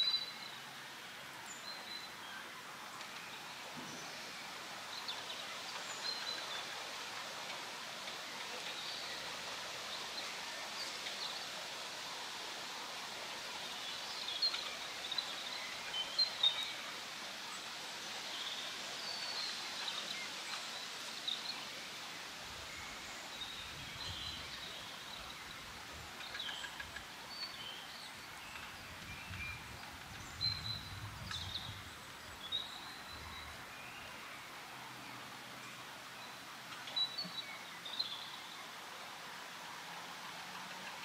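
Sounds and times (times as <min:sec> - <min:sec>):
songbirds singing and calling: 0:00.0 - 0:00.8, 0:01.4 - 0:39.6
wind in the leaves: 0:00.0 - 0:41.0.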